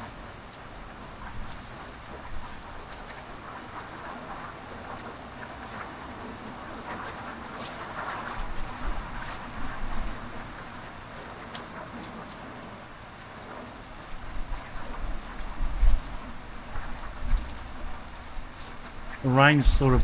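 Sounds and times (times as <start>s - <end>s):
raindrops splashing on hard surfaces: 0.0s - 19.6s
heavy rain pouring: 1.0s - 20.0s.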